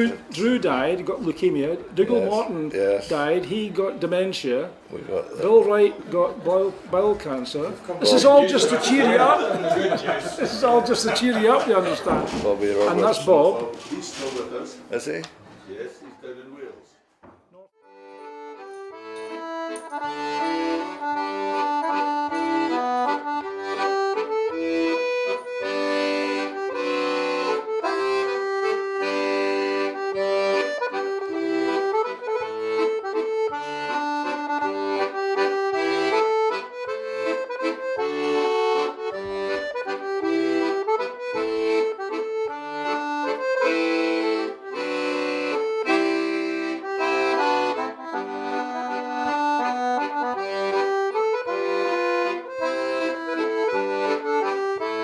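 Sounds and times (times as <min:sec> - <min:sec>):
accordion music: 0:00.0 - 0:14.6, 0:17.7 - 0:55.0.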